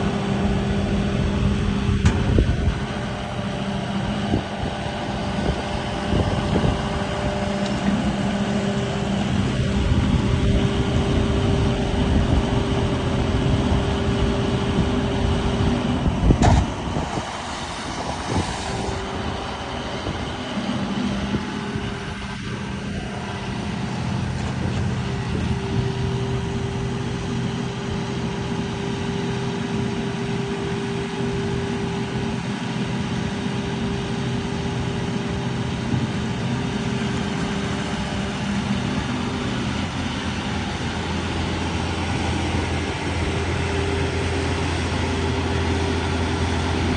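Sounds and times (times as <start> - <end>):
excavator engine and hydraulics: 0.0 - 46.9.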